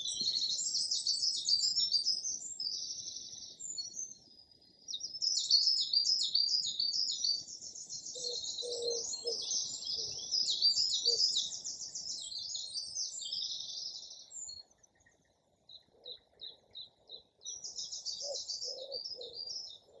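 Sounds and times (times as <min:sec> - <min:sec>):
songbird trilling: 0:00.0 - 0:04.2, 0:04.9 - 0:20.0.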